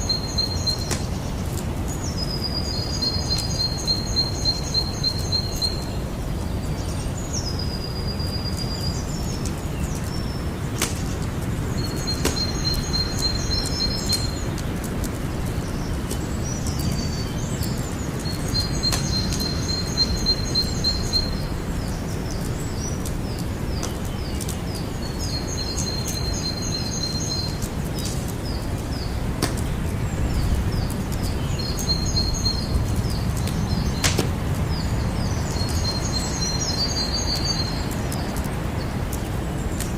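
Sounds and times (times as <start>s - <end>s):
campfire low rumble: 0.0s - 39.9s
fire crackles and pops: 0.0s - 39.9s.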